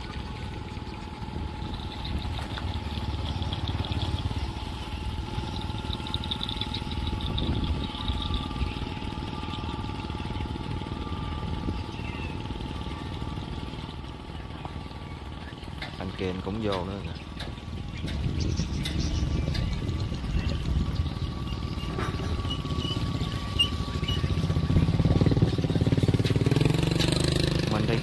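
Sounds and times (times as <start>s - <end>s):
boat engine rumbling: 0.0s - 28.0s
thin steady whine: 0.0s - 28.0s.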